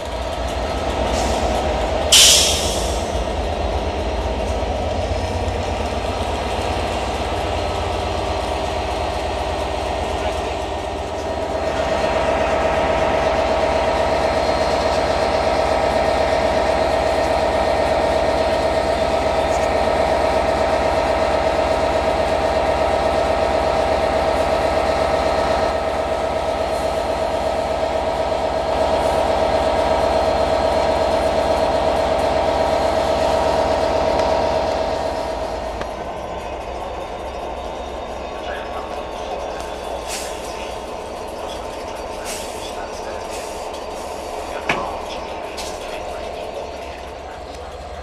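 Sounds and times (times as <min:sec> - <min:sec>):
locomotive engine whining: 0:00.0 - 0:48.0.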